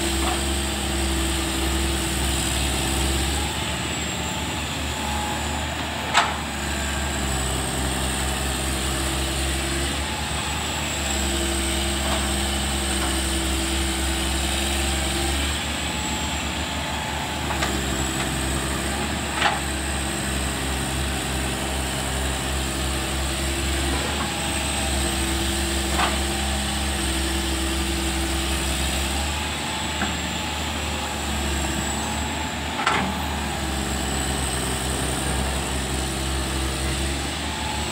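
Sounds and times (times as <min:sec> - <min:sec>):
excavator engine running: 0:00.0 - 0:37.9.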